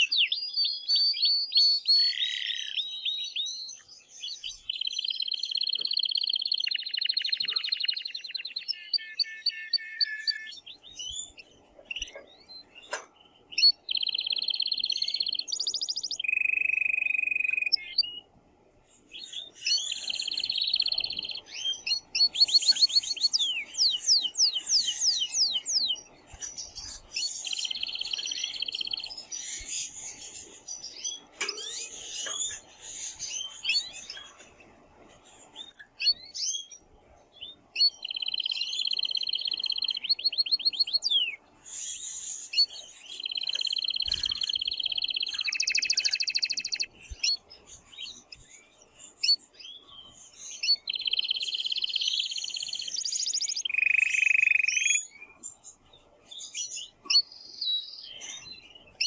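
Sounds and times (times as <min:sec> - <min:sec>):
canary singing rapid trills: 0:00.0 - 0:18.3, 0:19.2 - 0:34.4, 0:37.4 - 0:55.8.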